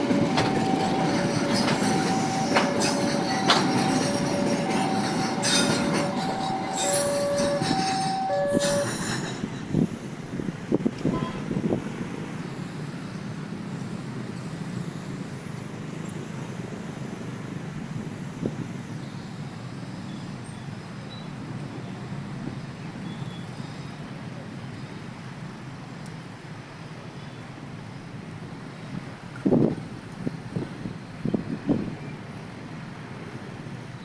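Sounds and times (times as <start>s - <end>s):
tyres on road: 0.0s - 34.0s.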